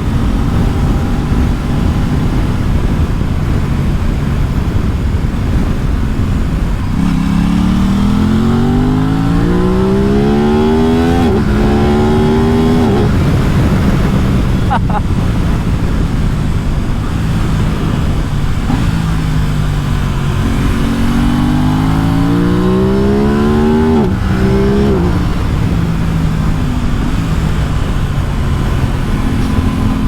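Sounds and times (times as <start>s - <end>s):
motorcycle engine under load: 0.0s - 30.0s.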